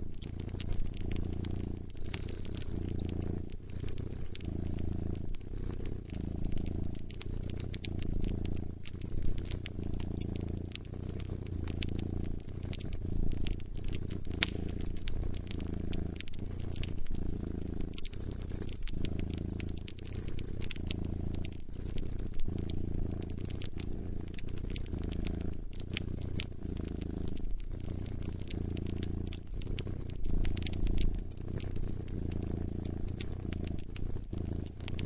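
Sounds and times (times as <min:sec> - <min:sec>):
cat purring: 0:00.0 - 0:35.0
wood fire crackling: 0:00.0 - 0:35.0.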